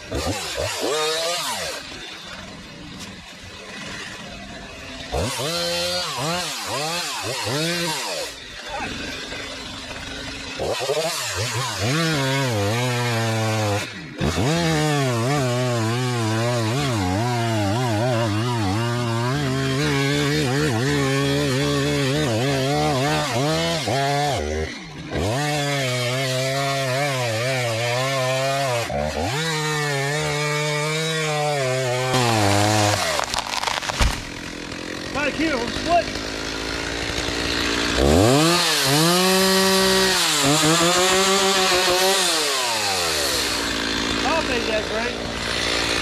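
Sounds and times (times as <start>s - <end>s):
chainsaw cutting through tree: 0.0s - 46.0s.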